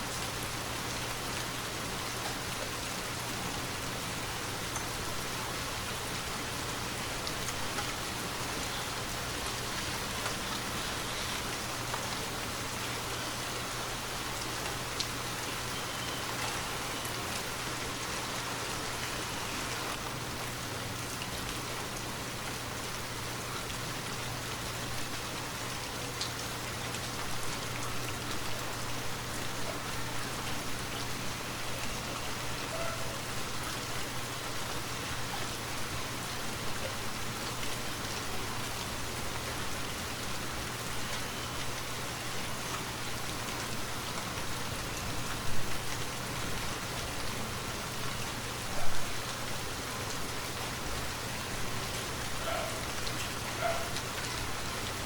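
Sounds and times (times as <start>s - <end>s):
rain pattering on forest canopy: 0.0s - 55.0s.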